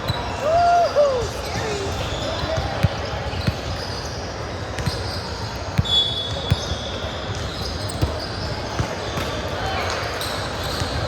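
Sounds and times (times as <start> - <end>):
large hall noise: 0.0 - 11.0.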